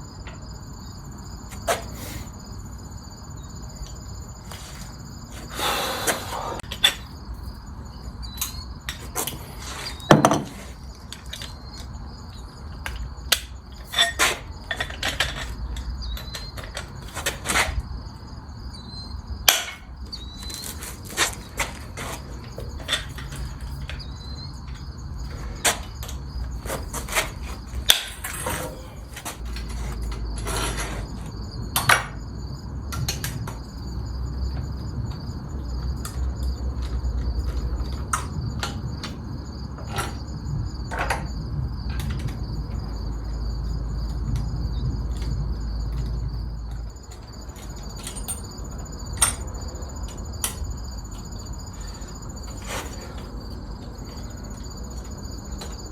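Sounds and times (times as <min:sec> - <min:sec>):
crickets chirring: 0:00.0 - 0:55.9.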